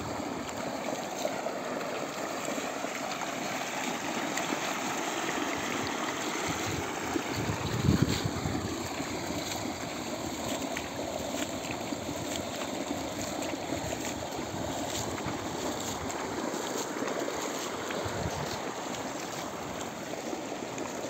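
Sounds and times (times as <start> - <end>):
water gushing into a tank: 0.0 - 21.0.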